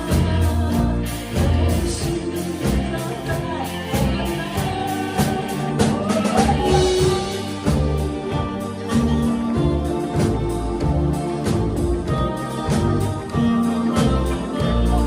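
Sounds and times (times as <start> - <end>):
band playing pop ballad: 0.0 - 15.0
drum kit beat: 0.0 - 15.0
person singing: 0.0 - 15.0.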